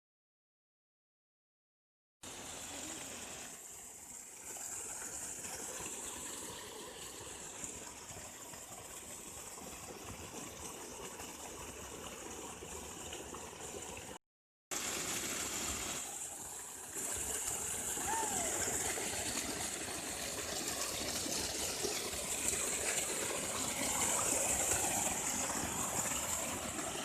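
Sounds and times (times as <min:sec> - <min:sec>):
water gushing from pump outlet: 0:02.2 - 0:27.0.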